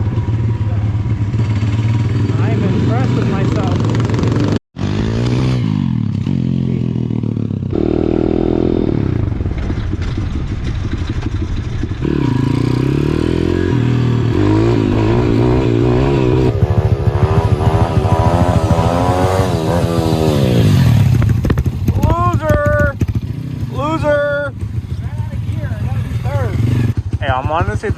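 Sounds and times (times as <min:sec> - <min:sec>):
pit bike engine revving: 0:00.0 - 0:27.9.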